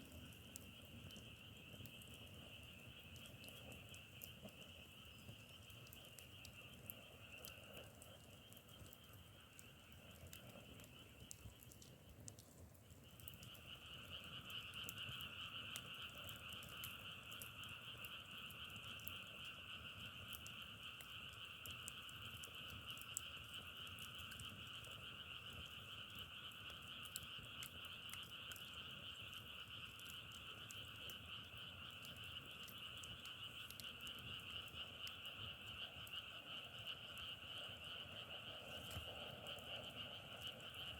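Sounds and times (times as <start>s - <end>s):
faint crackles: 0.0s - 40.9s
frogs trilling: 0.0s - 40.9s.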